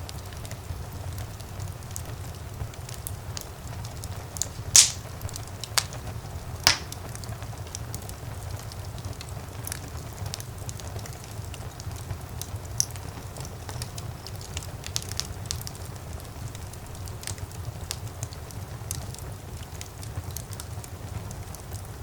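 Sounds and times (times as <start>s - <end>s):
fire crackles and pops: 0.0s - 22.0s
fire flames rumbling: 0.0s - 22.0s.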